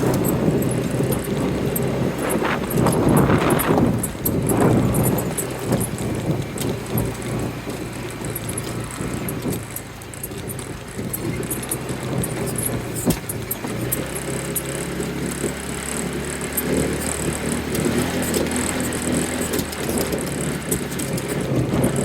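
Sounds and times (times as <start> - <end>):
light rattling and clicking: 0.0 - 22.0
vehicle engine running: 0.0 - 22.0.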